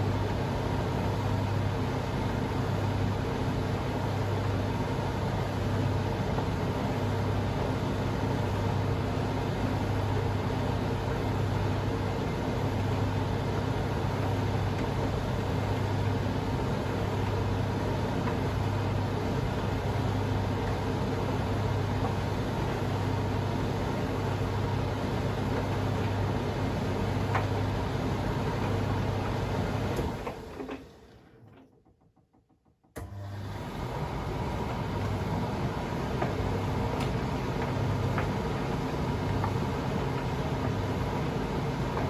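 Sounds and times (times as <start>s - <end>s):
washing machine motor hum: 0.0s - 32.0s, 33.0s - 42.0s.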